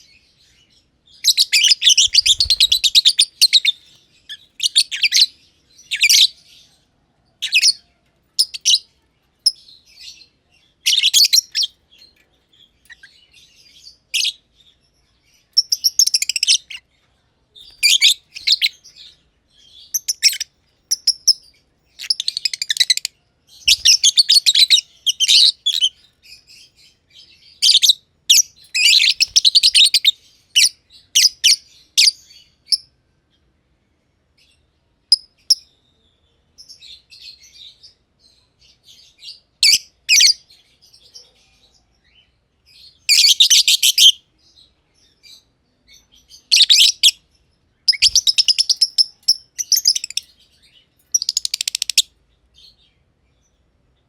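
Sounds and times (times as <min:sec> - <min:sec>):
lovebirds chirping: 0:00.0 - 0:33.6, 0:34.4 - 0:54.0.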